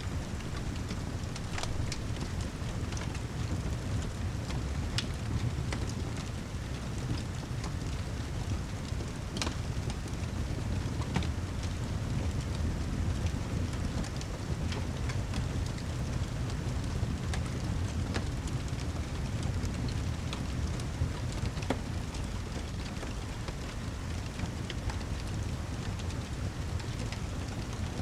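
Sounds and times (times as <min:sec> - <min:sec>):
fire crackles and ticks: 0:00.0 - 0:28.0
heavy rain: 0:00.0 - 0:28.0.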